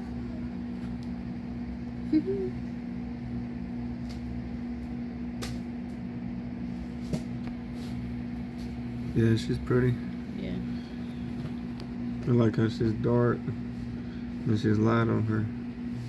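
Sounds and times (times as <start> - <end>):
steady low machine hum: 0.0 - 16.0.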